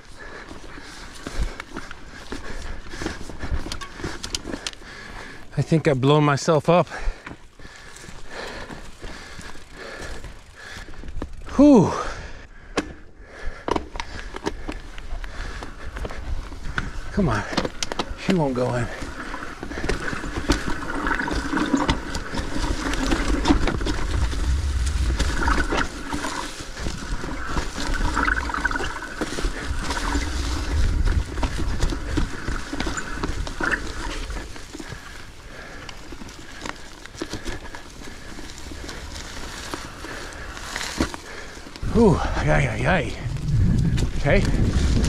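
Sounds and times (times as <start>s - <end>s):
rider breathing heavily: 0.0s - 5.9s, 6.5s - 45.0s
bike rattling over rocks: 0.0s - 12.2s, 12.9s - 45.0s
bike tyres rumbling: 0.0s - 45.0s.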